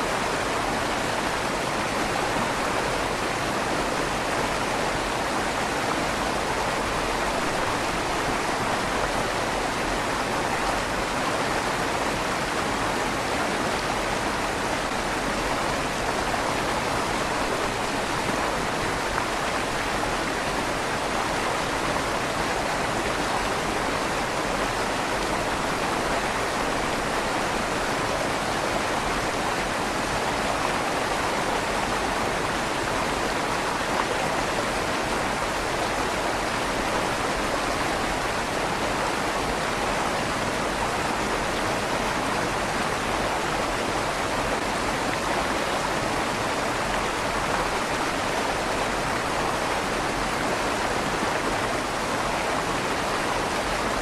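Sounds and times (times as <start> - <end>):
river water rushing in tunnel: 0.0 - 54.0.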